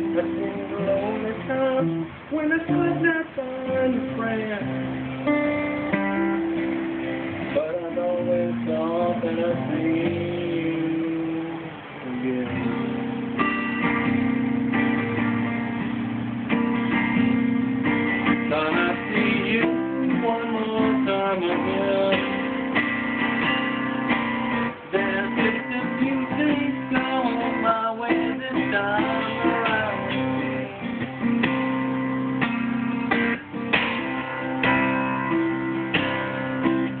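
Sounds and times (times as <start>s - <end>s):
acoustic guitar playing: 0.0s - 37.0s.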